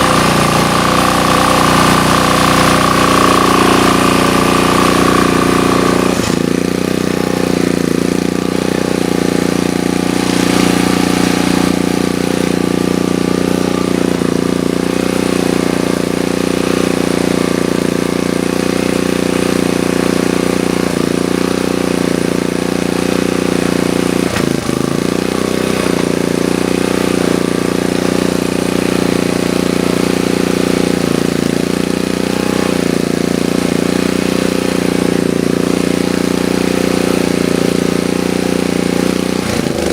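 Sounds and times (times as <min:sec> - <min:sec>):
portable generator engine running: 0:00.0 - 0:39.9.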